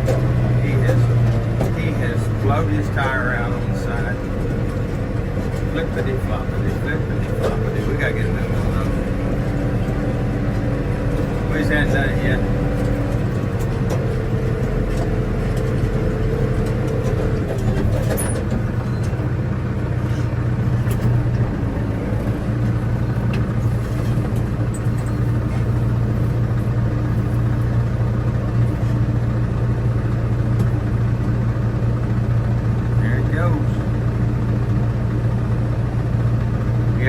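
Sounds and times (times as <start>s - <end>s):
farm vehicle engine droning: 0.0s - 37.0s.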